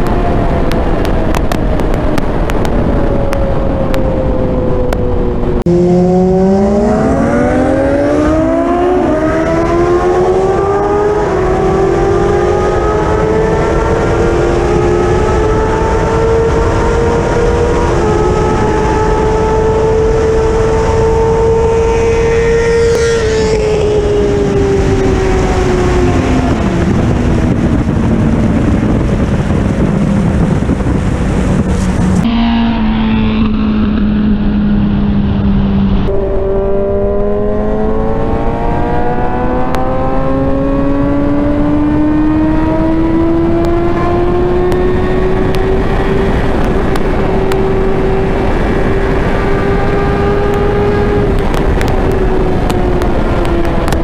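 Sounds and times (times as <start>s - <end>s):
motorcycle engine at high speed: 0.0s - 54.0s
wind rush: 0.0s - 54.0s.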